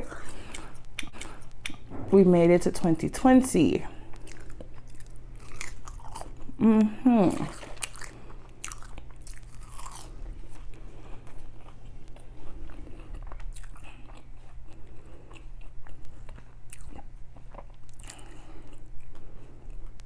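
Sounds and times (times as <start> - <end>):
crunching and chewing food: 0.0 - 1.9, 4.0 - 20.0
steady low hum: 0.0 - 20.0.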